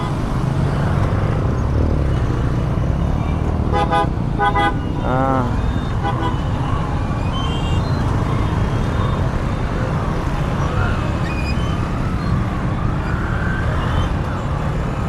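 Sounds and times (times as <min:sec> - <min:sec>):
motorbikes and cars passing close: 0:00.0 - 0:15.0.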